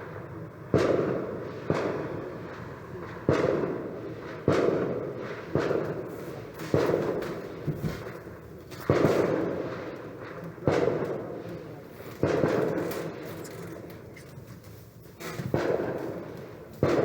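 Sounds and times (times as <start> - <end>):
distant booming bangs with echo: 0.0 - 14.2, 15.2 - 17.0.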